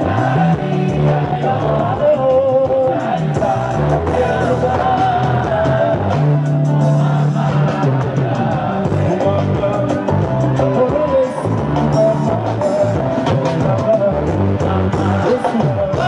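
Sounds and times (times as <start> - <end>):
person singing with instruments: 0.0 - 16.0
sustained bass line: 0.0 - 16.0.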